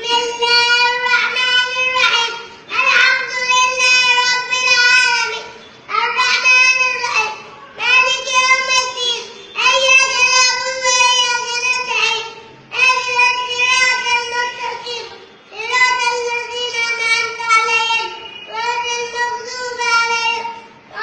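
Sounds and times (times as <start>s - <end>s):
boy chanting recitation: 0.0s - 21.0s.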